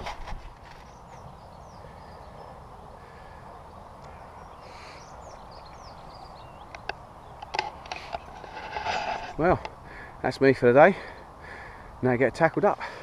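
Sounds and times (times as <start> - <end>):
outdoor background hiss: 0.0 - 13.0
songbirds chirping and singing: 0.0 - 13.0.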